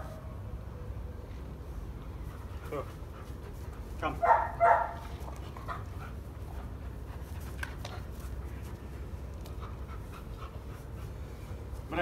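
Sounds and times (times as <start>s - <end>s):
dog panting: 2.1s - 11.9s.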